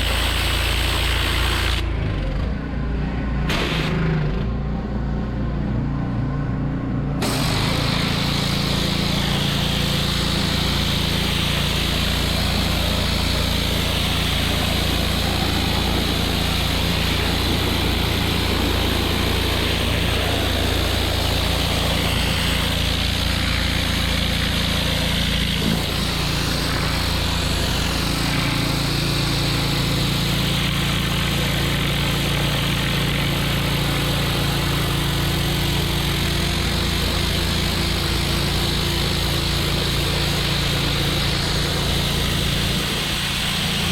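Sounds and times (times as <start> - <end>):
pressure washer engine running: 0.0 - 43.9
high-pressure spray hissing: 7.2 - 43.9.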